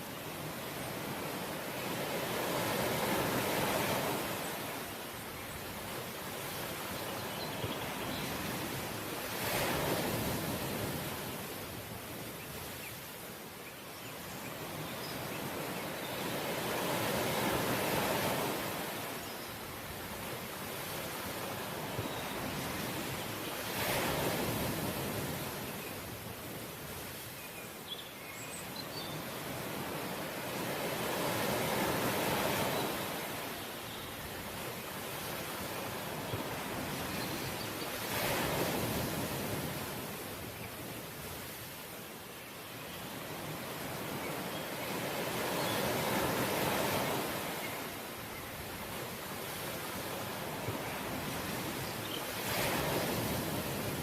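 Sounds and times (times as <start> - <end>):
ocean surf washing: 0.0 - 27.8, 29.2 - 54.0.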